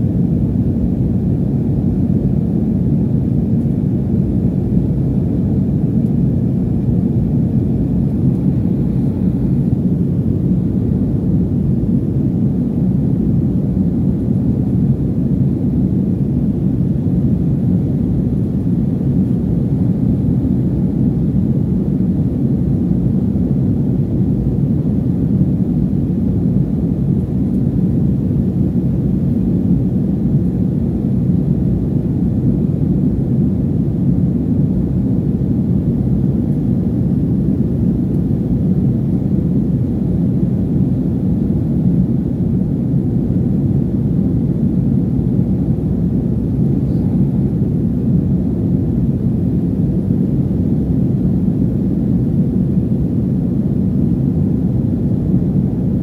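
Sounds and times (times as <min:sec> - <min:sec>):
jet airliner cabin rumble: 0:00.0 - 0:56.0.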